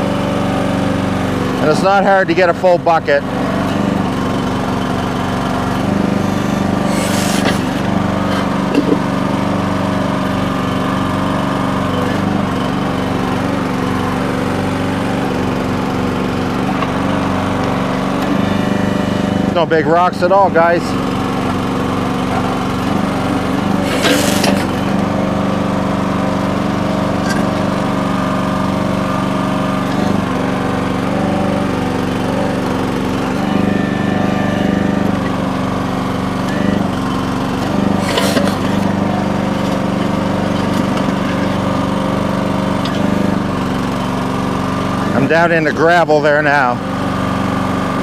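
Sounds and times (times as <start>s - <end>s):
hydraulics working: 0.0s - 48.0s
small gas engine running: 0.0s - 48.0s.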